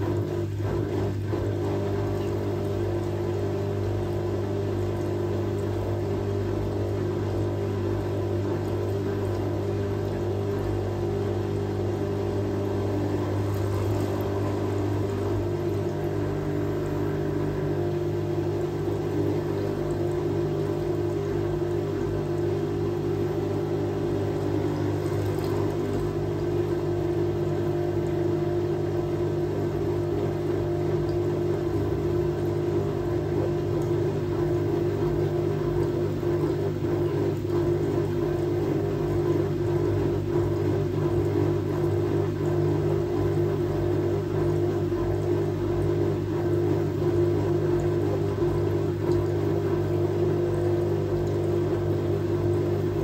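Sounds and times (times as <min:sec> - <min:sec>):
washing machine whirring hum: 0:00.0 - 0:53.0.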